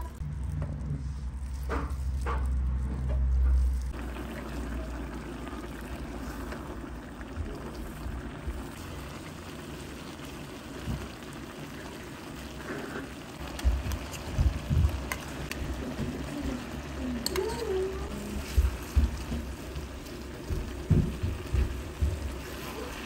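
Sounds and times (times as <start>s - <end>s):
pasta sauce bubbling in pan: 3.9s - 23.0s.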